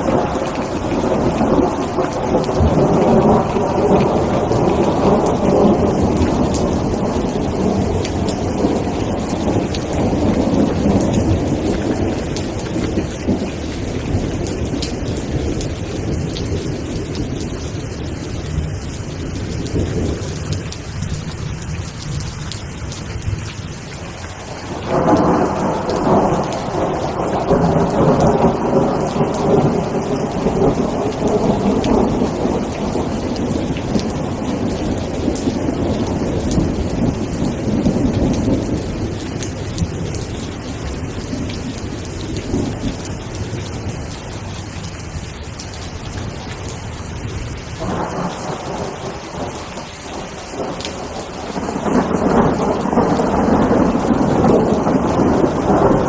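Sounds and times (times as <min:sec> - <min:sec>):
rolling thunder: 0:00.0 - 0:21.4, 0:24.5 - 0:43.9, 0:47.8 - 0:56.0
steady rain: 0:00.0 - 0:56.0.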